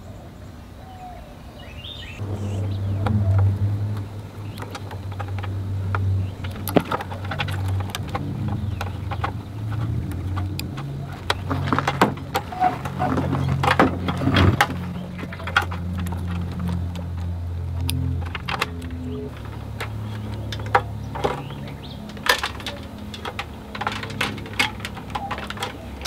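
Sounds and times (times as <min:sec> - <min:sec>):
steady low hum: 0:00.0 - 0:26.0
clicks of plastic connectors: 0:03.0 - 0:26.0.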